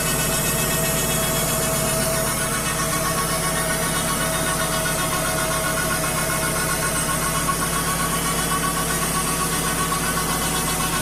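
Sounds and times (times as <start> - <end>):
bandsaw sawmill cutting wood: 0.0 - 11.0.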